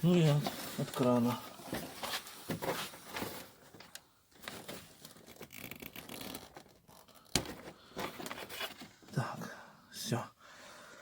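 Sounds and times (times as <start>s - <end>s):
rustling and scraping: 0.0s - 9.2s.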